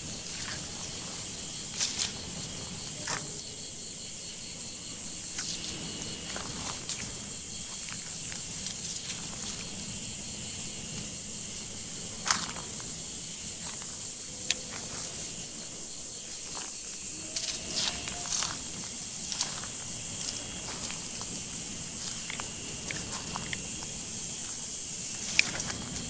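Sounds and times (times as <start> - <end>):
forest insects droning: 0.0 - 26.0.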